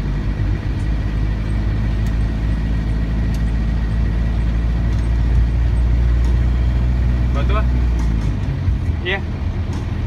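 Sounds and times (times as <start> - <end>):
diesel engine running: 0.0 - 10.0
road noise on wet street: 0.0 - 10.0.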